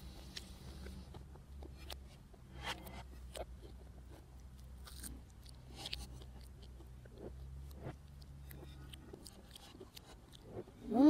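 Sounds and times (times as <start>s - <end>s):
low steady hum: 0.0s - 11.0s
person chewing: 0.0s - 11.0s.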